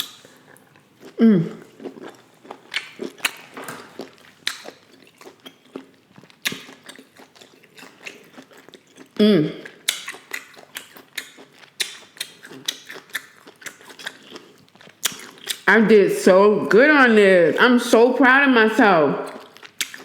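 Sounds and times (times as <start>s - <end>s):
chewing and biting: 0.0s - 15.7s, 19.3s - 20.0s.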